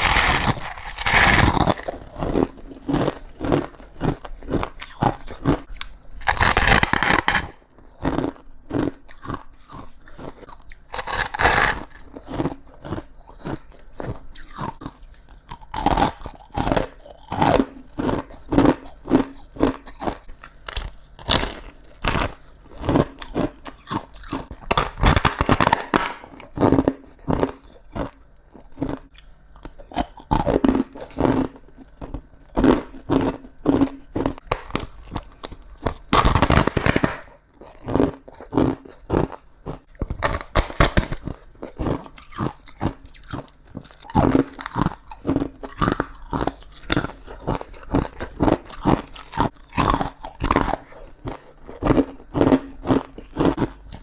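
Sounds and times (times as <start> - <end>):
person crunching ice: 0.0 - 29.1, 29.7 - 54.0.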